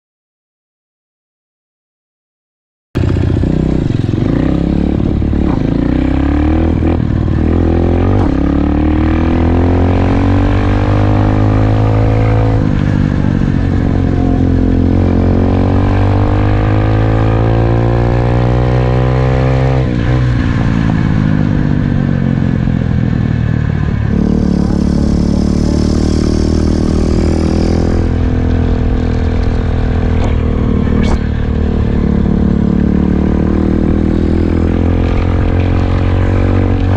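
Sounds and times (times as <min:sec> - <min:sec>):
dirt bike engine revving: 0:03.0 - 0:20.4, 0:24.1 - 0:36.9.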